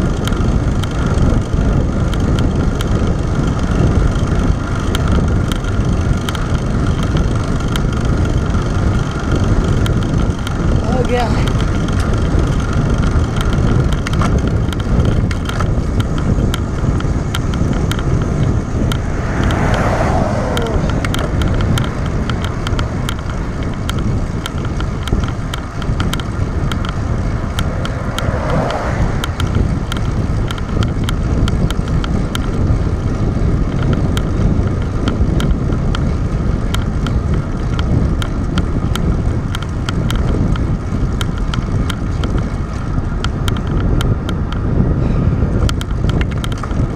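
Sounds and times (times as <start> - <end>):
small ticks: 0.0 - 1.1, 2.0 - 44.7, 45.6 - 46.9
bicycle tyre noise on asphalt: 0.0 - 46.9
wind rushing: 0.0 - 46.9.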